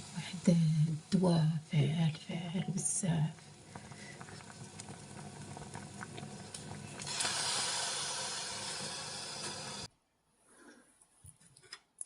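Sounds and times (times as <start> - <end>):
pot boiling over hissing: 0.0 - 9.9
water boiling with small pops: 0.0 - 9.9.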